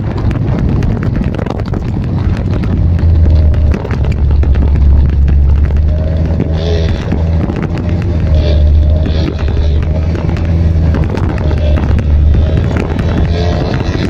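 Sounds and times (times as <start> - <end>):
scooter engines running: 0.0 - 14.0
wind buffeting microphone: 0.0 - 14.0.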